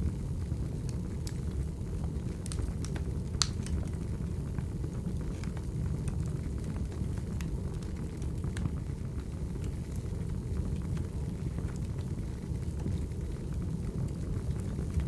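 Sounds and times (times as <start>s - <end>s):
fire flames rumbling: 0.0s - 15.0s
fire pops and snaps: 0.7s - 15.0s.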